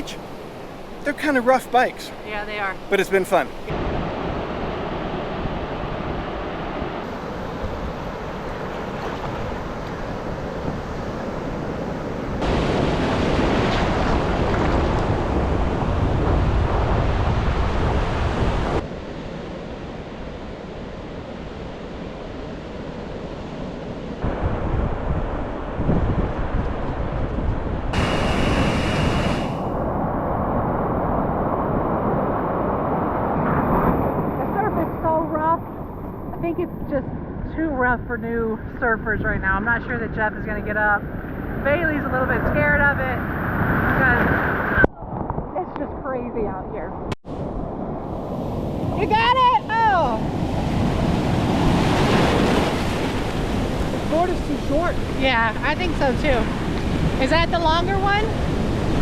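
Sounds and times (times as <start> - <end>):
surf breaking on a beach: 0.0 - 46.0, 47.3 - 59.0
wind buffeting microphone: 0.0 - 59.0.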